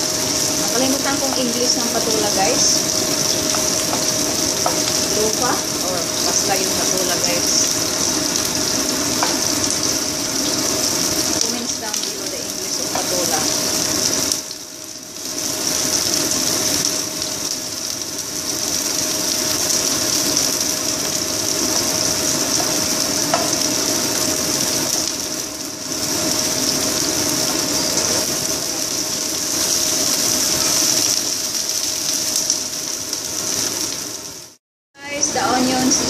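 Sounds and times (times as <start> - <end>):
onions sizzling in oil: 0.0 - 36.0.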